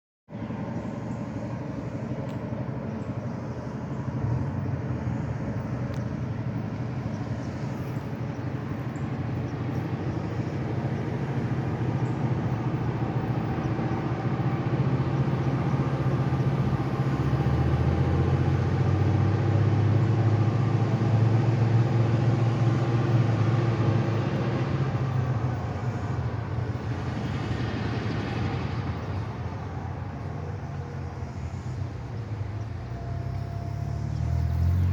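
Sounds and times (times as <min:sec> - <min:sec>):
diesel locomotive engine running: 0:00.3 - 0:34.9.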